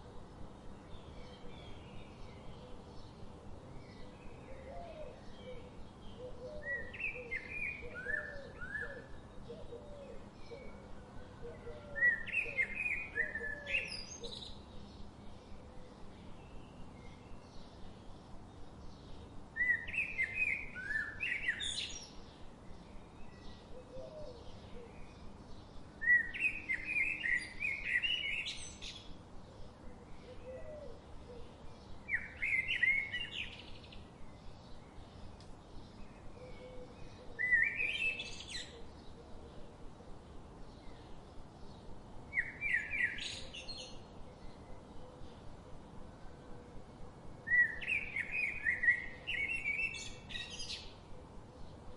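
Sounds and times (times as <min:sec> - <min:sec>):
faint steady hiss: 0:00.0 - 0:51.9
songbird singing: 0:00.0 - 0:51.9.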